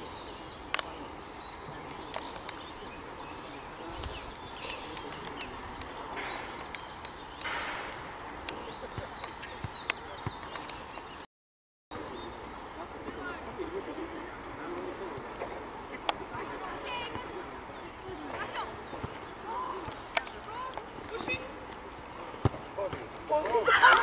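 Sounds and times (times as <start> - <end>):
faint distant voices: 0.0 - 11.2, 11.9 - 24.0
birdsong: 0.0 - 11.3, 11.9 - 24.0.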